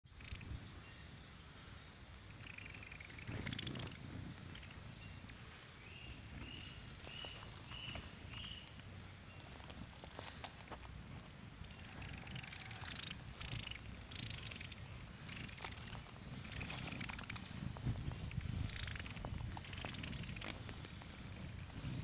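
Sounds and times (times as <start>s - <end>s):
low rumbling noise: 3.0s - 22.0s.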